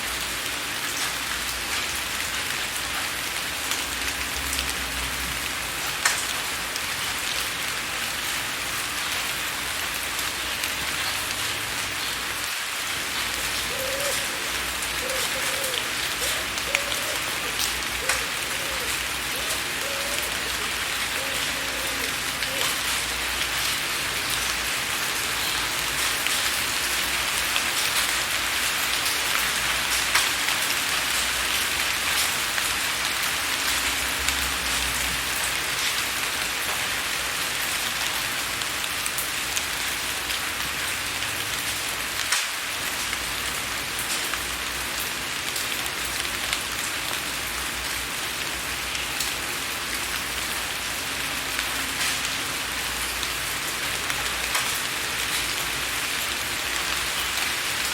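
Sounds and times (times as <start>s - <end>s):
rain hissing: 0.0s - 57.9s.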